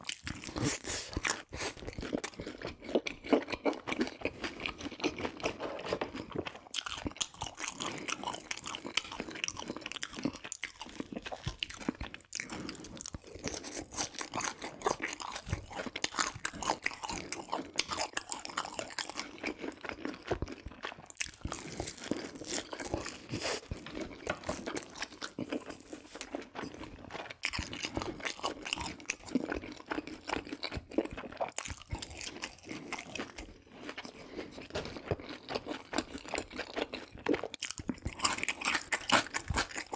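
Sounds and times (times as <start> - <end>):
chewing crispy fried food: 0.0 - 39.9.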